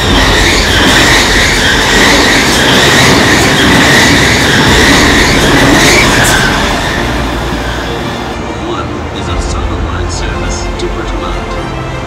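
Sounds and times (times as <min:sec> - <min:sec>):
train wheels on rails: 0:00.0 - 0:10.2.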